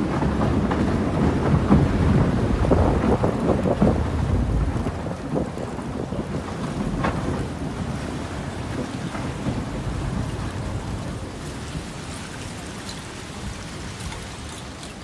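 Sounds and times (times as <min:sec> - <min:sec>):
boat hull low rumble: 0:00.0 - 0:15.0.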